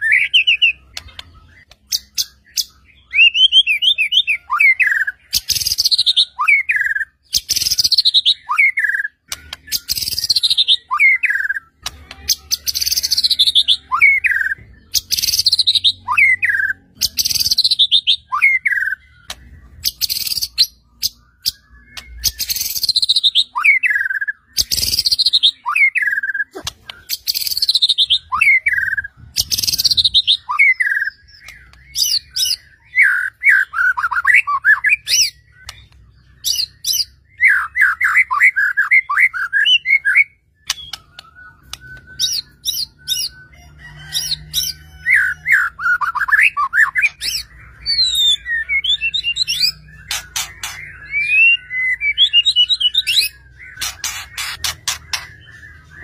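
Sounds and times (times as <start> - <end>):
songbird whistling: 0.0 - 11.8, 12.5 - 56.0.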